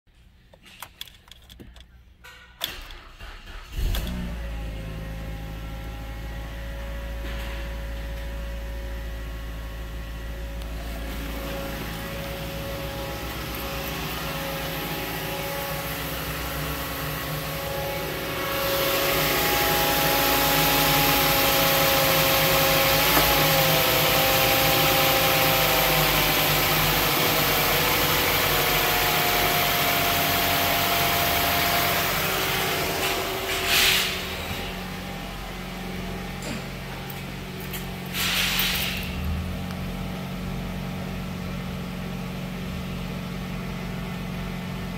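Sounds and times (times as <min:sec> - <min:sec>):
faint engine whine: 0:00.2 - 0:44.9
car engine idling: 0:03.0 - 0:44.9.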